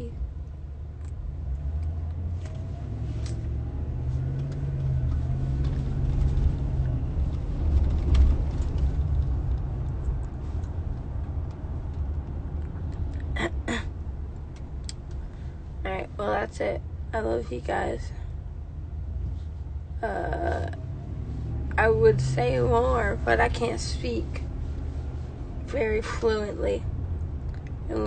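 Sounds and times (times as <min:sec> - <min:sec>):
car driving rumble: 0:00.0 - 0:28.0.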